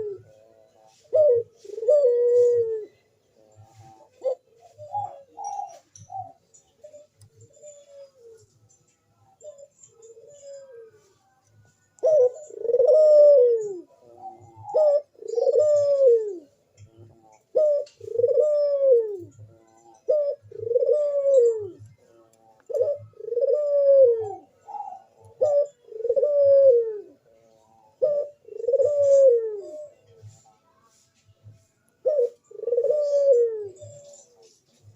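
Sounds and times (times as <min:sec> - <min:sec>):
dove cooing: 0:00.0 - 0:30.5, 0:31.5 - 0:34.9.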